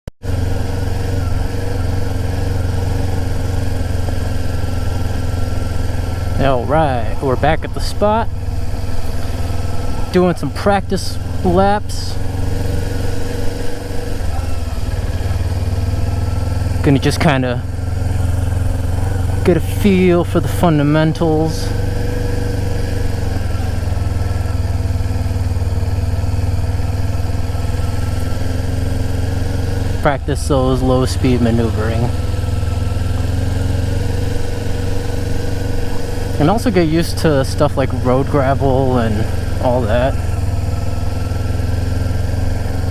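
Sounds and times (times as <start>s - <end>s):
motorcycle engine running: 0.1s - 42.9s.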